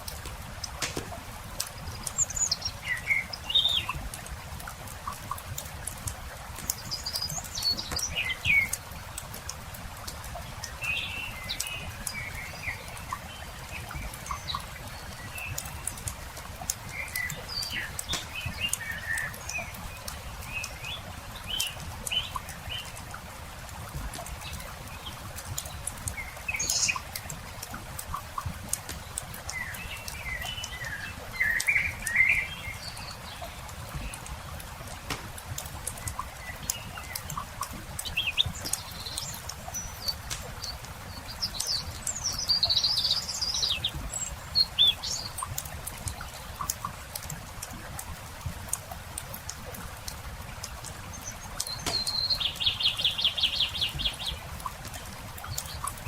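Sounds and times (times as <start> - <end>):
campfire crackling and popping: 0.0 - 56.0
songbirds chirping: 0.0 - 56.0.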